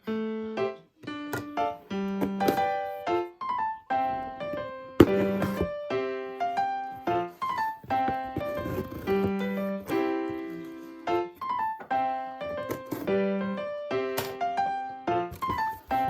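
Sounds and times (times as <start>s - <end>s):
keyboard melody: 0.0s - 16.0s.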